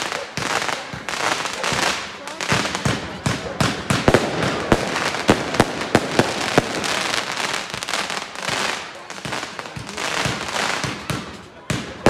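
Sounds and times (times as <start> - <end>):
firework bangs: 0.0 - 12.0
firework crackle: 0.0 - 12.0.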